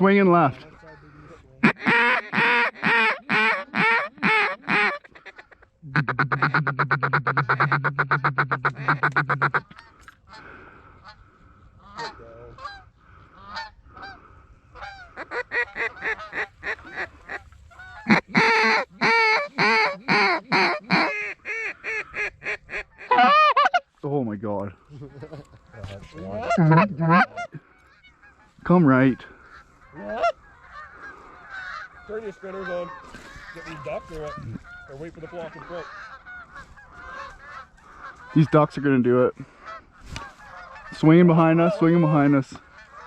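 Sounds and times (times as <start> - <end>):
goose honking and clucking: 0.0 - 24.0, 24.8 - 43.0.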